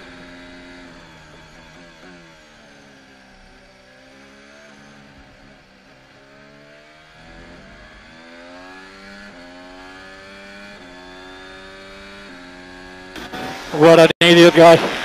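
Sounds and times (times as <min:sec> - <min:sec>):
gear changes: 0:00.0 - 0:15.0
racing car engine revving: 0:00.0 - 0:15.0.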